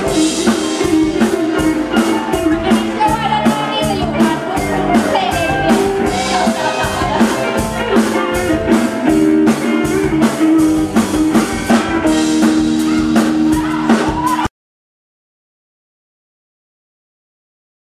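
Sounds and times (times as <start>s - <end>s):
drum kit beat: 0.0s - 14.5s
electric guitar: 0.0s - 14.5s.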